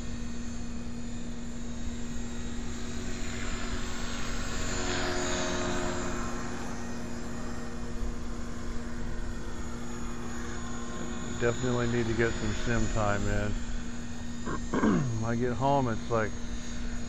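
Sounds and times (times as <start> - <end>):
rc helicopter drone: 0.0 - 17.0.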